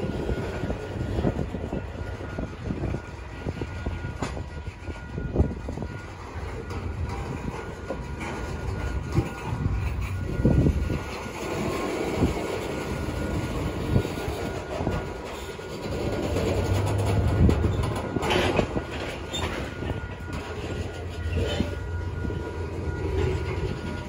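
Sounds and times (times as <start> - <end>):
freight train rumbling past: 0.0 - 24.0
train clatter: 0.0 - 24.0
wheels clicking over rail joints: 0.0 - 24.0.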